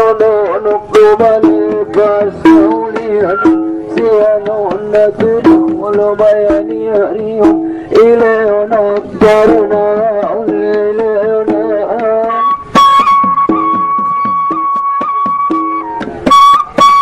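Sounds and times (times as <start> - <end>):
quick steady drum strokes: 0.0 - 17.0
wavering held melody: 0.0 - 17.0.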